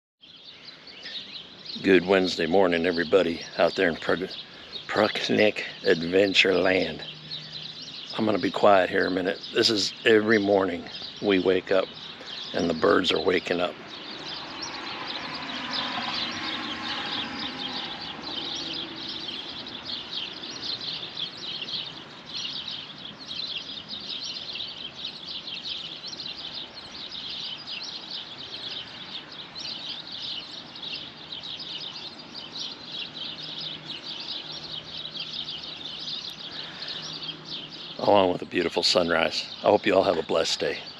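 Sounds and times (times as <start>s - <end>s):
songbirds chirping and twittering: 0.2s - 40.9s.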